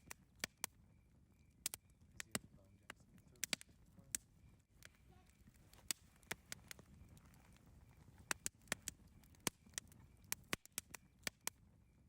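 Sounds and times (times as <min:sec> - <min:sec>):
campfire crackling and popping: 0:00.0 - 0:12.0
low rumble of burning fire: 0:00.0 - 0:12.0.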